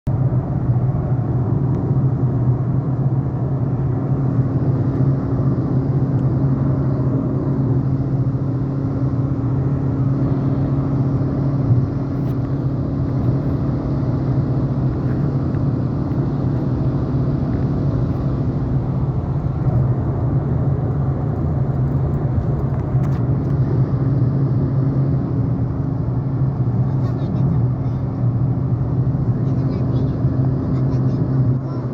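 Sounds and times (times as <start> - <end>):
road and wind noise: 0.0 - 31.9
low engine hum: 0.1 - 31.9.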